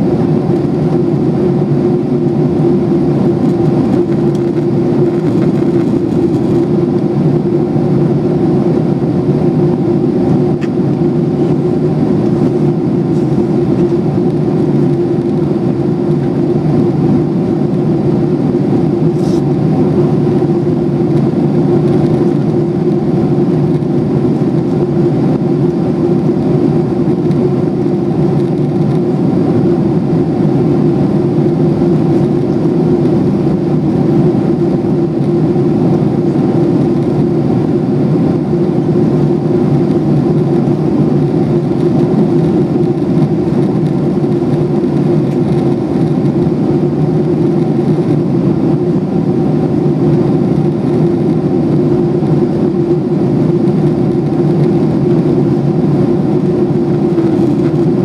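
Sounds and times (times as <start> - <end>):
airflow rushing over fuselage: 0.0 - 58.0
jet engines droning: 0.0 - 58.0
steady low hum: 0.0 - 58.0.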